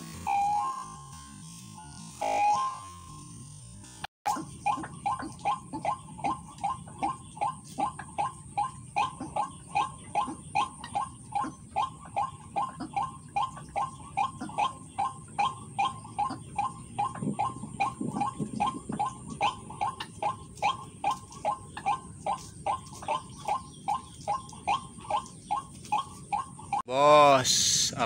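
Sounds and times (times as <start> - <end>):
waterhen harsh kwak calls: 4.3 - 26.8.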